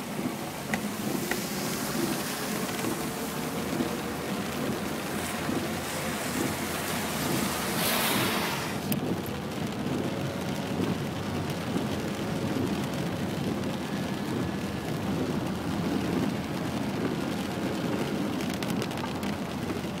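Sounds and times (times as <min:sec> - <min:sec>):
heavy rain on car: 0:00.0 - 0:20.0
tyres running through water: 0:00.0 - 0:20.0.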